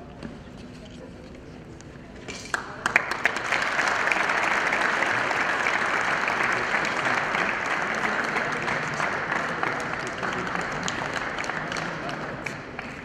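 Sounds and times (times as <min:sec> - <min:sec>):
crowd clapping: 0:02.5 - 0:13.0.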